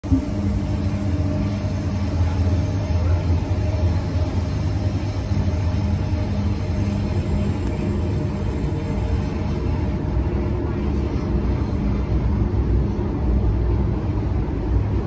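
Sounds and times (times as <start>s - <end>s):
low hum: 0.0s - 15.0s
train running rumble: 0.0s - 15.0s.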